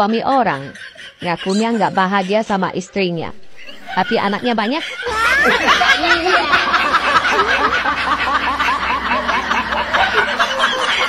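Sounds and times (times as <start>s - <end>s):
rapid high cackling laughter: 0.0s - 11.0s.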